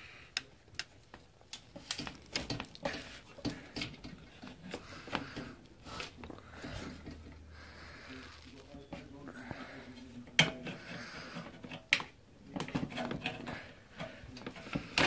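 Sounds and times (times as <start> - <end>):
hand tools clicking and knocking: 0.4 - 7.5, 8.1 - 15.0.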